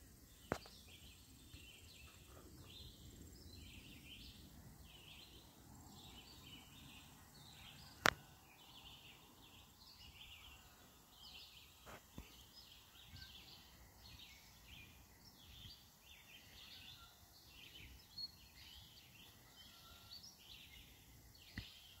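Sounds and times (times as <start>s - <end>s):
faint high-pitched chirping: 0.0s - 22.0s.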